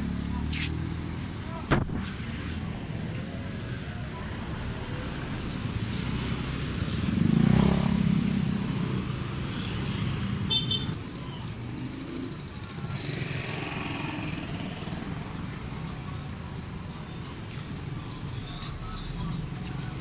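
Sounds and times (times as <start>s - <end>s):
motor scooters passing: 2.2s - 20.0s.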